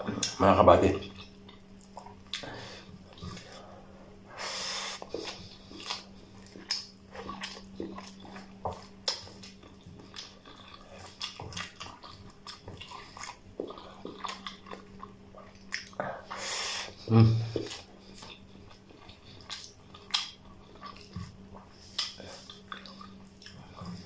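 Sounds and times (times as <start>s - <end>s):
wet chewing and lip-smacking: 1.0s - 3.5s, 5.0s - 16.4s, 17.5s - 24.0s.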